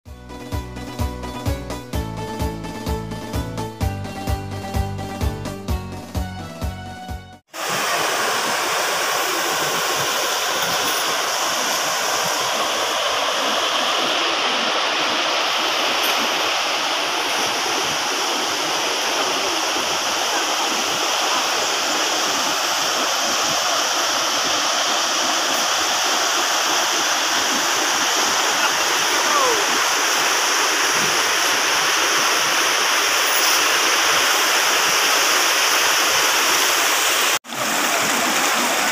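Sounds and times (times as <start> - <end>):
river rushing over rocks: 7.5 - 38.9.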